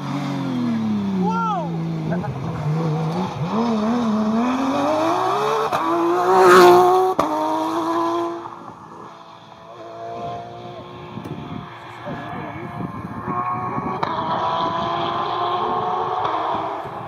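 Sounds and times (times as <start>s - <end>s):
car engine accelerating past: 0.0s - 17.0s.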